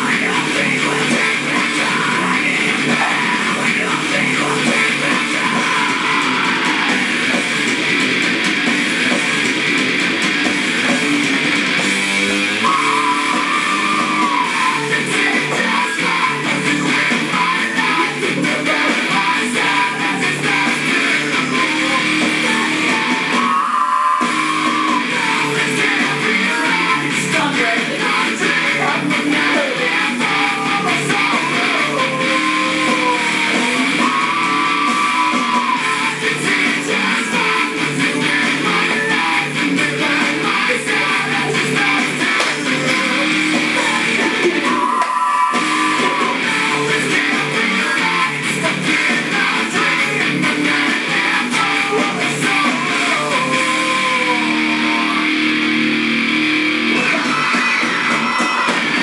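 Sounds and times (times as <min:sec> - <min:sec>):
guitar rock music: 0:00.0 - 0:59.0.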